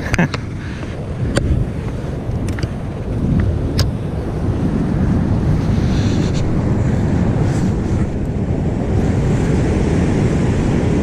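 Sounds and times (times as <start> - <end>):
ocean surf rumble: 0.0 - 11.0
wind buffeting microphone: 0.0 - 11.0.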